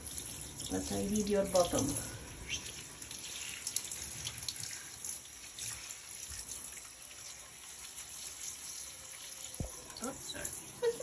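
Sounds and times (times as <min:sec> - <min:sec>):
water splashes and drips: 0:00.0 - 0:11.0.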